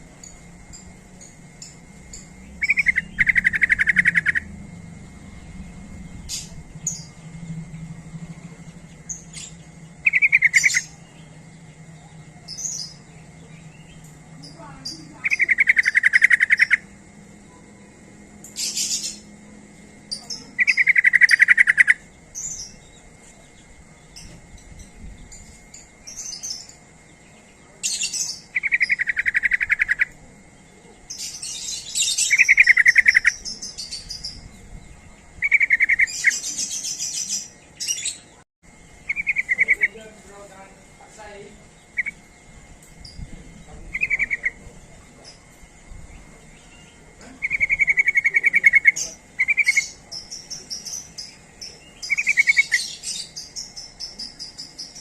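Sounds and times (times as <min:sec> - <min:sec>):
bulbul chattering calls: 0:00.0 - 0:04.6, 0:05.6 - 0:17.0, 0:18.5 - 0:19.4, 0:20.1 - 0:42.3, 0:43.0 - 0:55.0.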